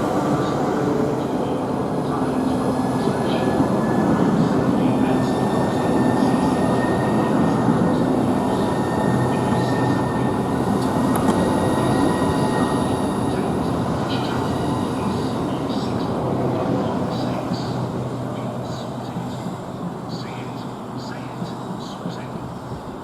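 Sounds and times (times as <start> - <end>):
train low running noise: 0.0 - 23.0.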